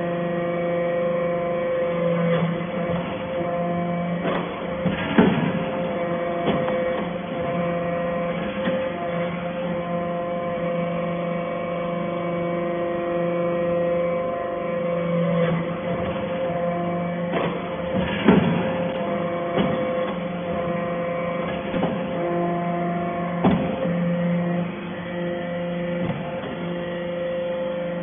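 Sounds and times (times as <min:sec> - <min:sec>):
hydraulic pump hum: 0:00.0 - 0:28.0.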